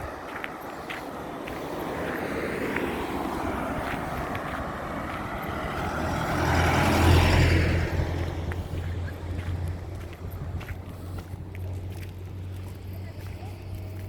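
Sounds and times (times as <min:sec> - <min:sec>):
vehicle passing: 0:00.0 - 0:14.0
wind buffeting microphone: 0:00.0 - 0:14.0.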